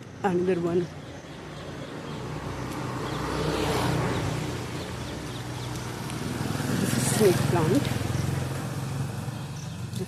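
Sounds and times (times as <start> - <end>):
vehicle driving past: 1.5 - 10.0.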